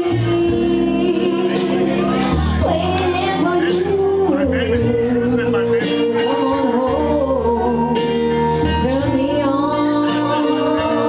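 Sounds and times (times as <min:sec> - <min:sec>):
backing track with bass: 0:00.0 - 0:11.0
woman singing into microphone: 0:00.0 - 0:11.0.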